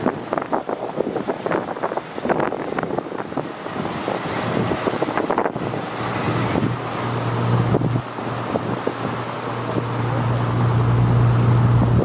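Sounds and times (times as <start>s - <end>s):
ship machinery drone: 0.0s - 12.0s
wind buffeting microphone: 0.0s - 12.0s.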